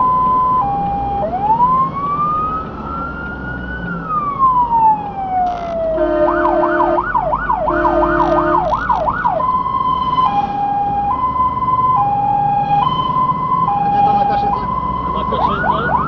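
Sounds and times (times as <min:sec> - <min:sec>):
fire engine siren wailing: 0:00.0 - 0:16.0
lower steady siren tone: 0:00.0 - 0:16.0
truck engine and road noise: 0:00.0 - 0:16.0.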